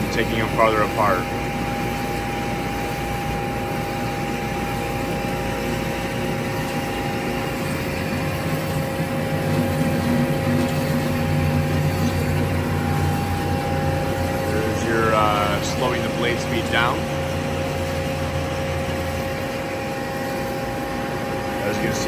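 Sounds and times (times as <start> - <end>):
band saw whine: 0.0 - 22.0
mechanical hum: 0.0 - 22.0.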